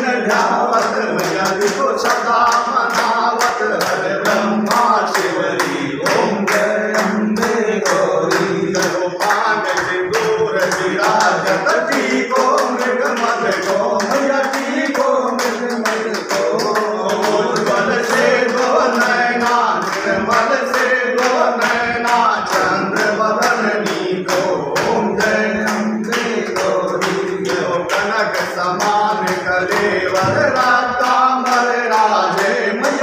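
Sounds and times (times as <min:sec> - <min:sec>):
people clapping in rhythm: 0:00.0 - 0:33.0
people singing a hymn: 0:00.0 - 0:33.0.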